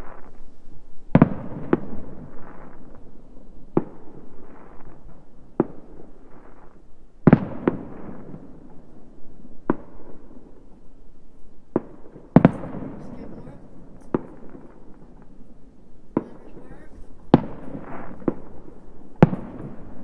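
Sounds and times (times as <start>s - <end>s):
fireworks bangs with echo: 0.0s - 10.8s, 11.6s - 20.0s.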